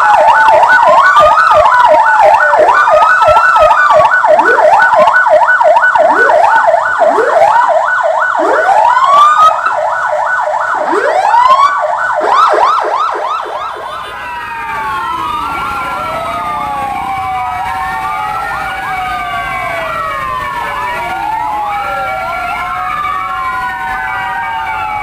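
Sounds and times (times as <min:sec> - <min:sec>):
fire engine sirens: 0:00.0 - 0:25.0.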